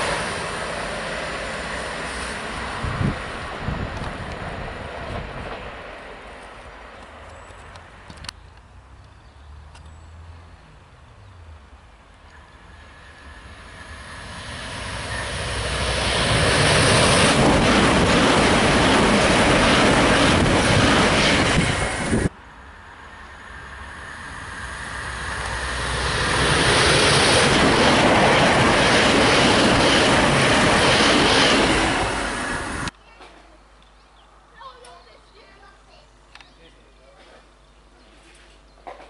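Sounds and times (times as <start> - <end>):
electric trains passing at speed: 0.0 - 33.0.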